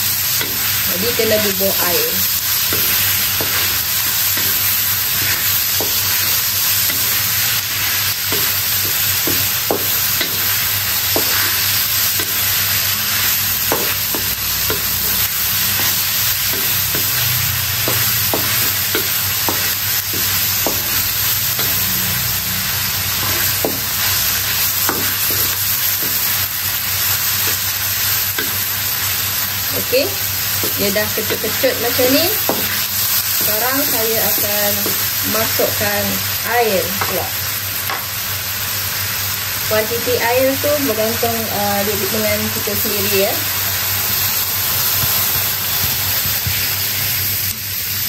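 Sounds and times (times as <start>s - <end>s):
meat sizzling in hot oil: 0.0s - 48.0s.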